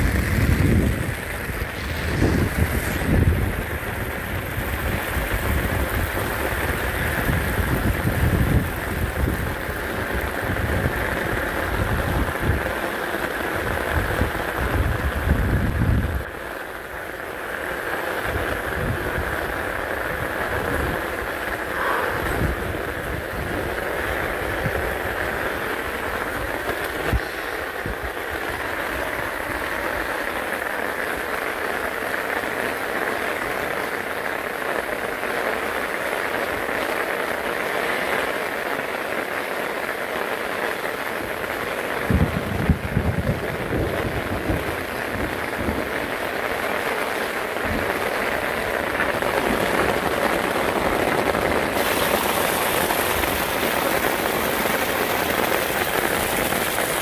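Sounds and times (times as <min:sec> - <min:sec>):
heavy rain pouring: 0:00.0 - 0:57.0
rushing water: 0:00.0 - 0:57.0.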